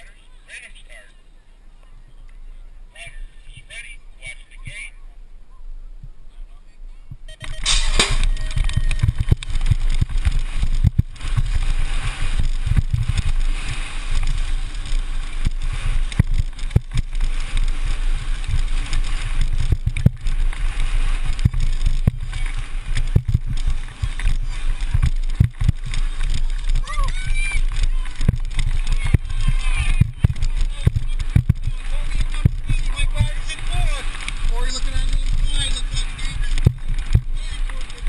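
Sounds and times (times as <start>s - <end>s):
bike tyres rumbling: 0.0s - 38.0s
wind rushing over microphone: 1.6s - 38.0s.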